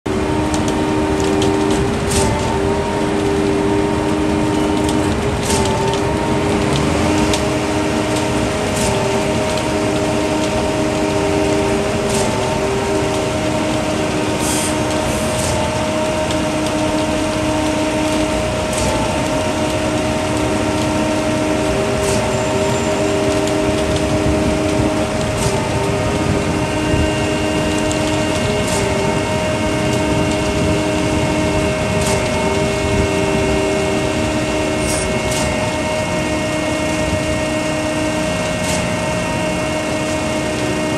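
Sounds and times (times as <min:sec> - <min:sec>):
concrete mixer drum whine: 0:00.0 - 0:40.9.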